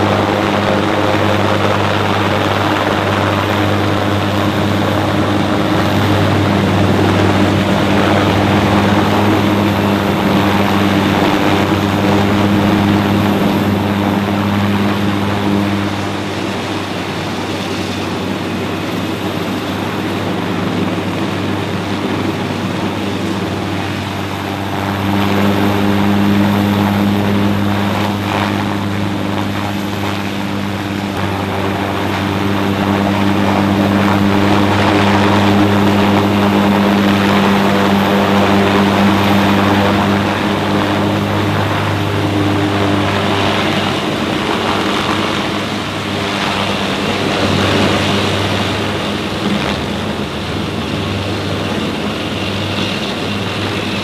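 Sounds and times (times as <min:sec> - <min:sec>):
even hum: 0:00.0 - 0:54.0
helicopter rotor and turbine: 0:00.0 - 0:54.0.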